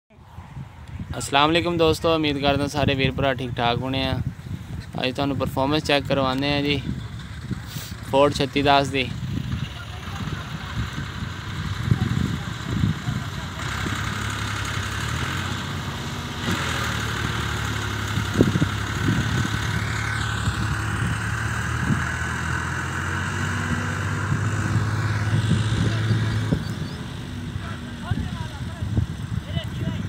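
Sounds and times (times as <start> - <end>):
tractor diesel engine idling: 5.7 - 29.8.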